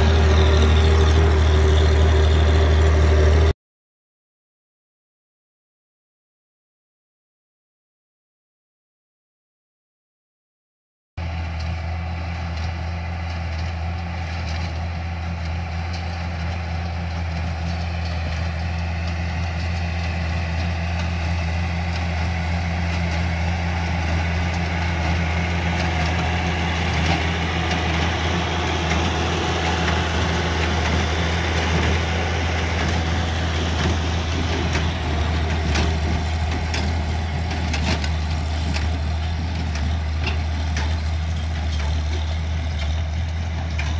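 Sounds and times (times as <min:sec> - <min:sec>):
tractor engine running: 0:00.0 - 0:03.5, 0:11.2 - 0:43.9.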